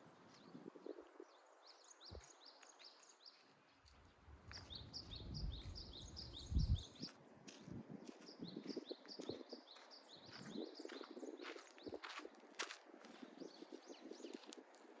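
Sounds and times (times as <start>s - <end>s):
small birds chirping: 0.1s - 7.2s, 8.0s - 12.3s, 13.1s - 15.0s.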